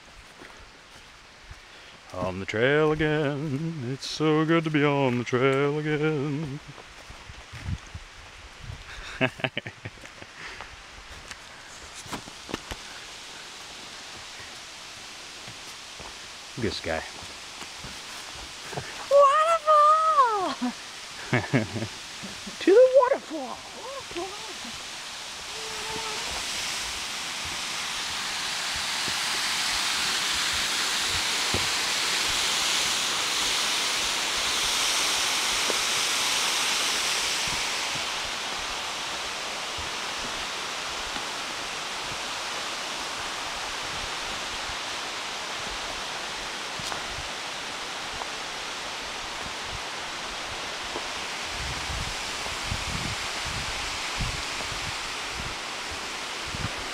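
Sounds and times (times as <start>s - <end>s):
waterfall rushing: 0.8s - 7.1s, 8.9s - 56.9s.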